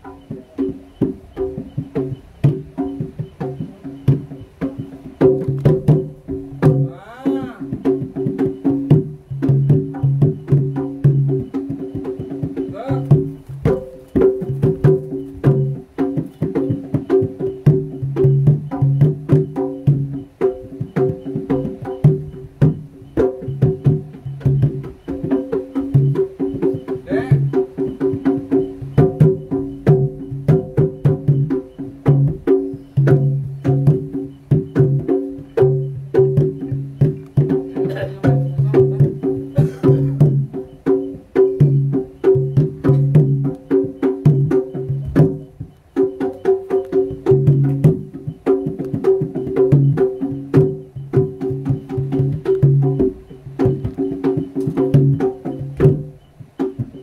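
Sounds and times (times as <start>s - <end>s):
rapid percussion strokes: 0.0s - 57.0s
ringing pitched tones: 0.0s - 57.0s.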